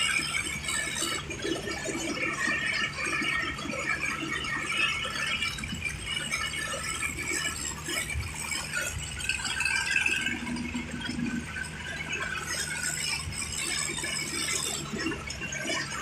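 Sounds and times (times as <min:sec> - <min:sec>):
rattling and squealing: 0:00.0 - 0:16.0
tractor engine drone: 0:00.0 - 0:16.0.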